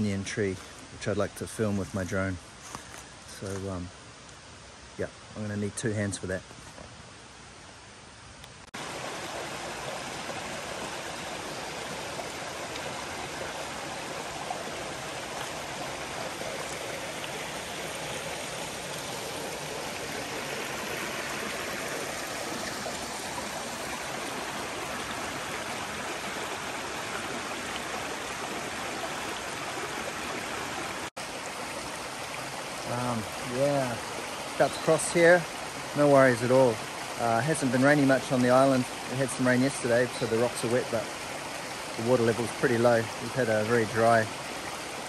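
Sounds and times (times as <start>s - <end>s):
river flowing over rocks: 8.8s - 45.0s.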